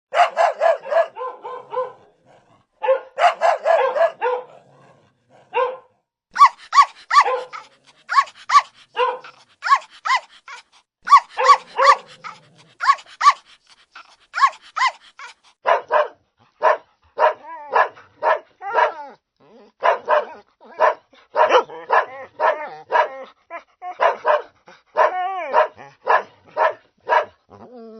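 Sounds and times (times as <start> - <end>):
dog barking: 0.1 - 19.0, 19.8 - 23.1, 23.9 - 27.4.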